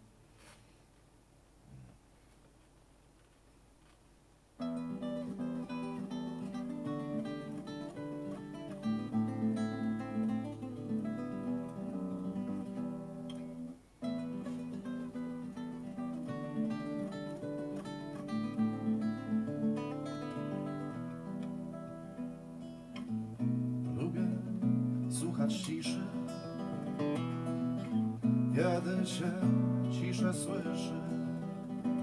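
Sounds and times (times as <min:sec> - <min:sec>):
classical guitar playing: 0:04.6 - 0:32.0.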